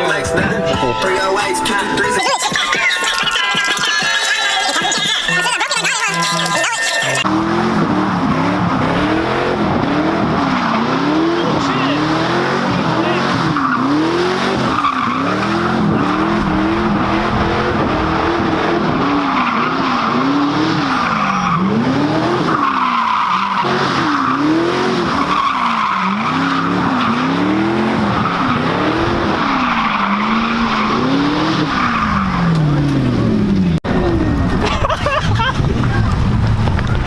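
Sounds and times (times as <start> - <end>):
tires squealing: 1.4 - 37.0
car engine revving: 3.0 - 37.0.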